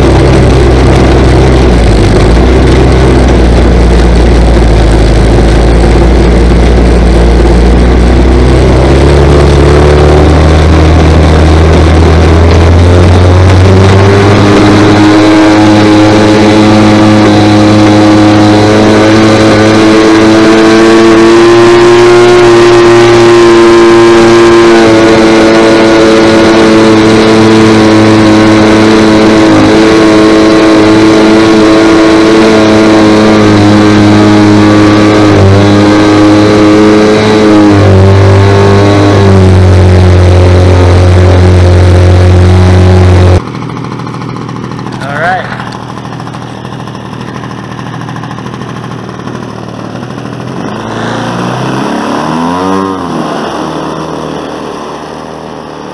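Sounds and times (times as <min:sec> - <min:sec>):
two-stroke engine turning propeller: 0:00.0 - 0:55.9.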